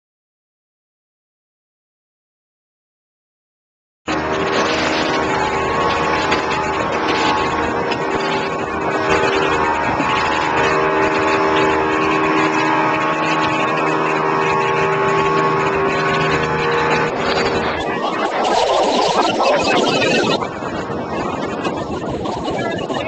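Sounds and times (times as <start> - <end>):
outboard engine drone: 4.1 - 23.0
rushing water: 4.1 - 23.0
wind: 4.1 - 23.0.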